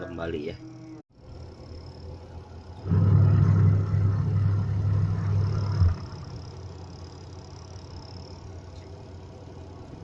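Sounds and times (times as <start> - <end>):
washing machine motor humming: 1.2 - 10.0.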